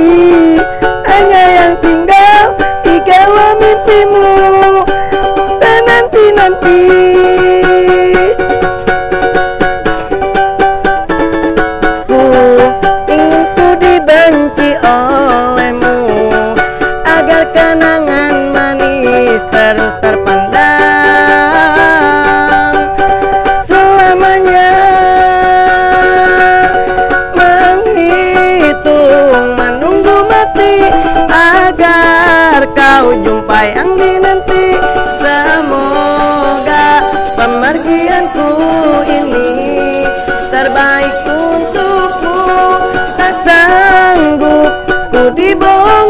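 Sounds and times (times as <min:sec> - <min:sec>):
ukulele strumming: 0:00.0 - 0:46.0
wavering melody line: 0:00.0 - 0:46.0.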